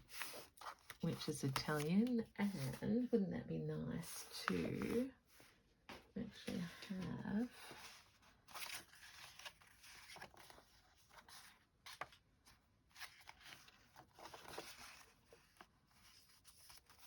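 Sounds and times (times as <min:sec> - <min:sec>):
paper rustling: 0:00.0 - 0:03.0, 0:04.0 - 0:17.0.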